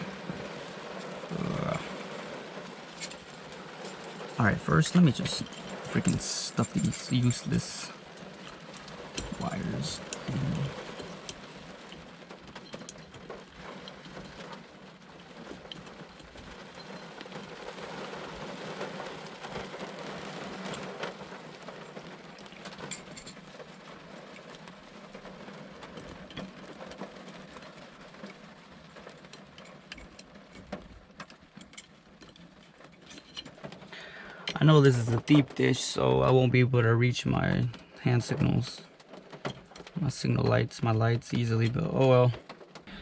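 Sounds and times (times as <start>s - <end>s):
rain falling on car: 0.0s - 43.0s.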